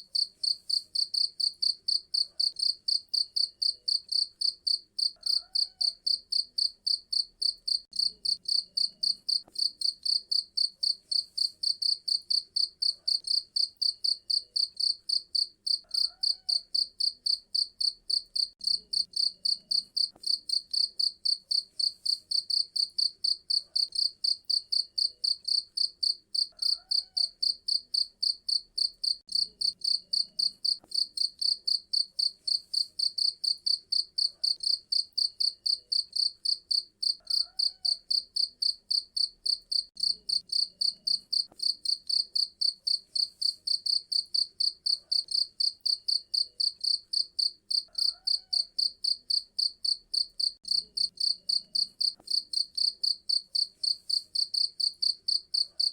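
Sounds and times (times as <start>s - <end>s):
cricket chirping: 0.1s - 55.9s.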